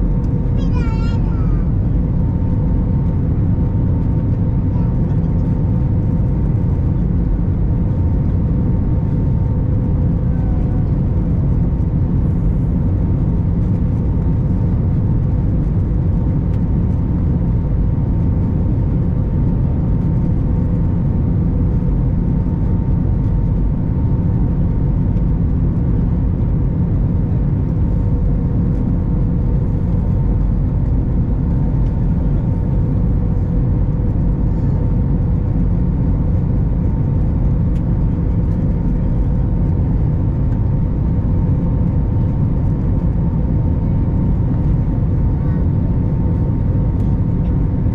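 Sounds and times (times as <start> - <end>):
airliner cabin engine rumble: 0.0 - 47.9
steady hums: 0.0 - 47.9.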